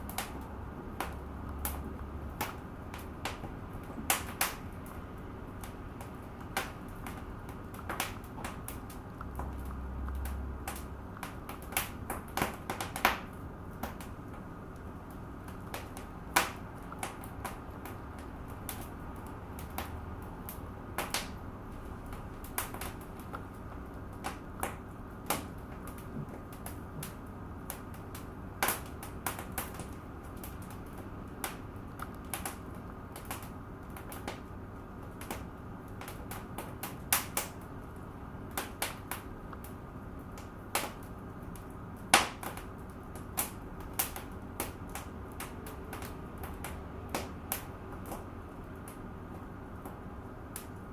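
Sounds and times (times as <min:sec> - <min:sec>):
low steady hiss: 0:00.0 - 0:50.9
sharp pops and snaps: 0:00.0 - 0:50.9
wood fire crackling: 0:00.0 - 0:50.9.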